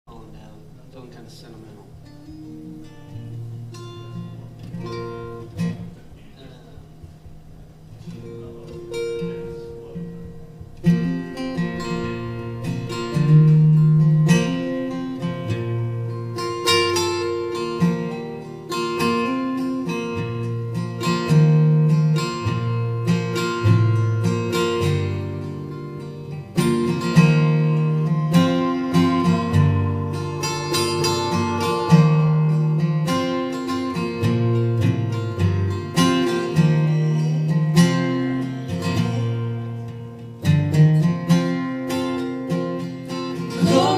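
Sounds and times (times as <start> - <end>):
acoustic guitar strumming chords: 0.1 - 43.9.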